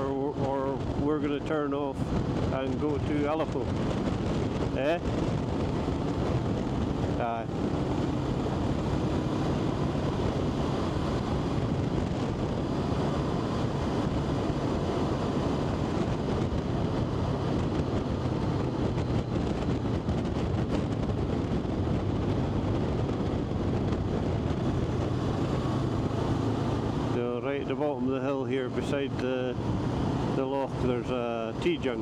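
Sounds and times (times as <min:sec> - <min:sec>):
vehicle engine droning: 0:00.0 - 0:32.0
wind buffeting microphone: 0:00.0 - 0:32.0.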